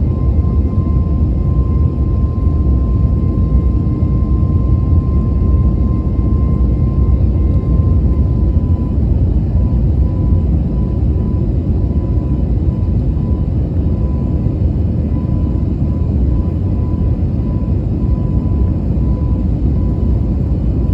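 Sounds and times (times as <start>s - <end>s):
faint steady whine: 0.0s - 20.9s
jet engines rumbling in cabin: 0.0s - 20.9s.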